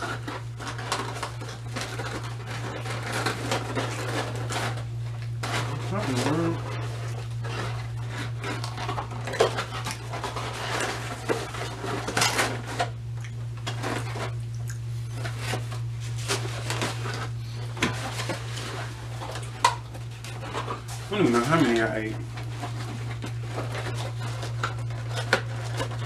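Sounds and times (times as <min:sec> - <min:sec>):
cardboard boxes scraping and rustling: 0:00.0 - 0:13.0, 0:15.1 - 0:26.0
steady low hum: 0:00.0 - 0:26.0.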